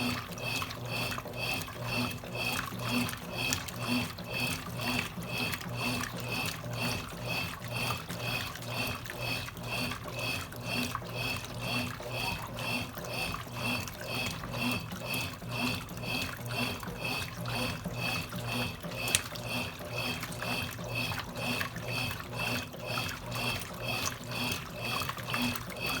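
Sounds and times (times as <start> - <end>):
washing machine running: 0.0 - 26.0
water sloshing: 0.0 - 26.0.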